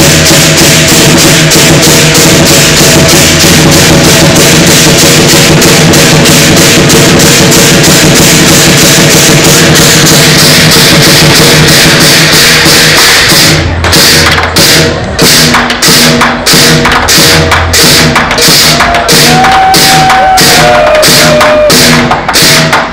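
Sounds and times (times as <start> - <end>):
crashing cymbals: 0.0 - 22.9
fast drum beat: 0.0 - 22.9.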